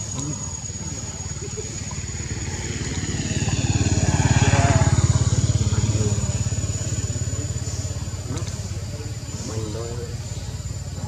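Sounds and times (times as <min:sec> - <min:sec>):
motorcycle passing by: 0:00.6 - 0:11.0.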